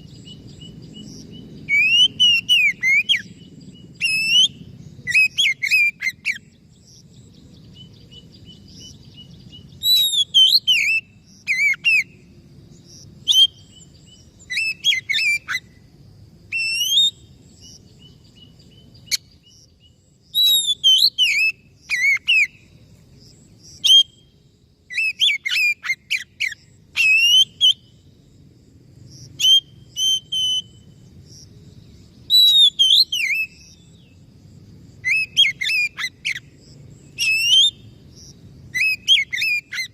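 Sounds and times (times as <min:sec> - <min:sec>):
bird singing whistles and chirps: 0:00.0 - 0:15.8, 0:16.5 - 0:22.8, 0:23.6 - 0:24.3, 0:24.9 - 0:28.0, 0:29.4 - 0:31.0, 0:31.8 - 0:34.2, 0:35.0 - 0:37.9, 0:38.7 - 0:39.9.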